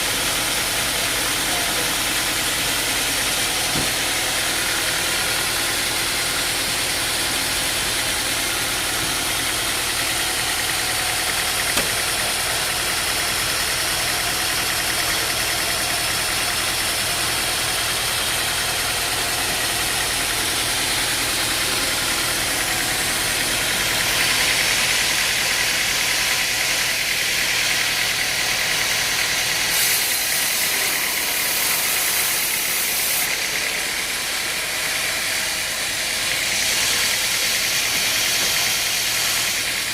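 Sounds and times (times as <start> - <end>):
machinery engine running: 0.0 - 39.9.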